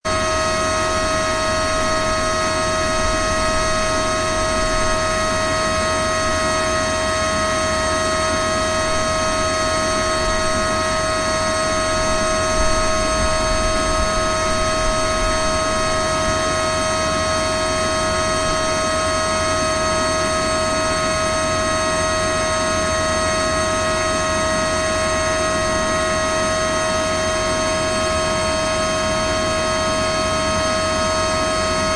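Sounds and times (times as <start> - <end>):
fan running with whine: 0.0 - 31.9.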